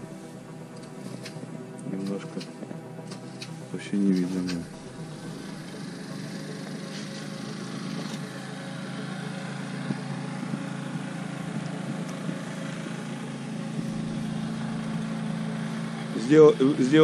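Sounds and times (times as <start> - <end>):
motor idling hum: 0.0 - 17.0.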